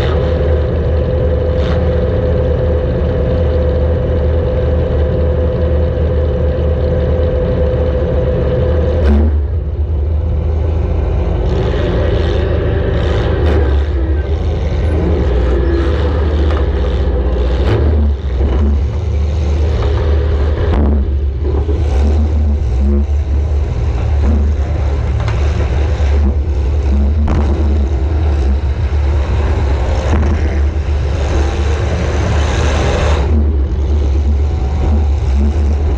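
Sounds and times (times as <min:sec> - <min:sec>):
car engine running hard: 0:00.0 - 0:35.9.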